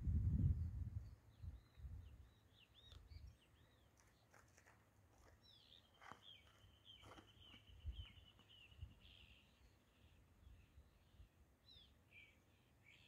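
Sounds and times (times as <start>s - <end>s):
bird chirps: 1.0s - 4.5s, 5.2s - 13.0s.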